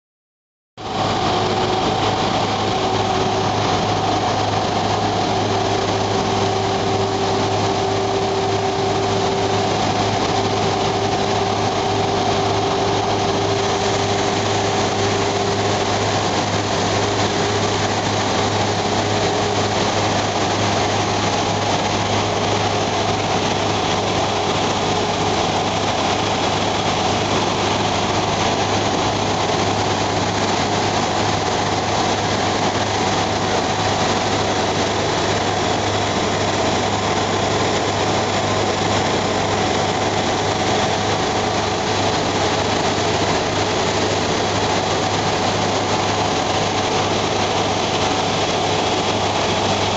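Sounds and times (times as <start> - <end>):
snow blower whine: 0.8 - 49.9
tractor engine drone: 0.8 - 49.9.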